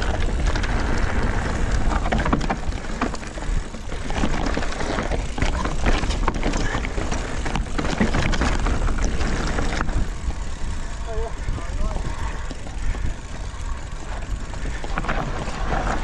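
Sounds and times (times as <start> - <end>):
bike rattling: 0.0 - 16.0
tyres rolling over loose stones: 0.0 - 16.0
wind rumble on microphone: 0.0 - 16.0.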